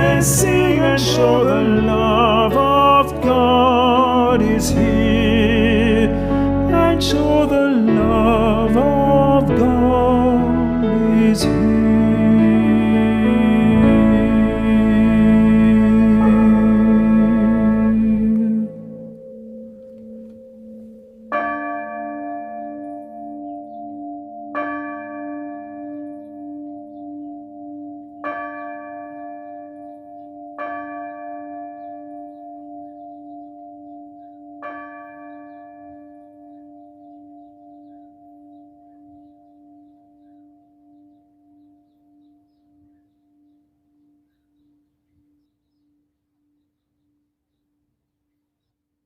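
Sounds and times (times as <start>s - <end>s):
church bell ringing: 0.0s - 45.8s.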